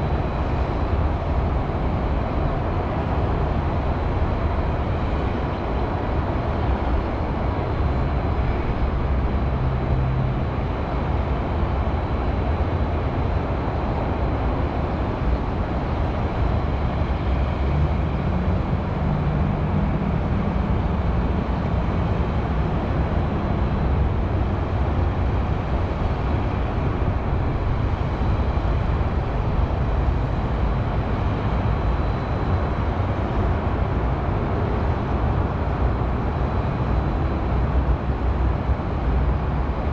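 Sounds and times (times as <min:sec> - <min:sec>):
heavy vehicle engine drone: 0:00.0 - 0:39.9
highway traffic rumble: 0:00.0 - 0:39.9.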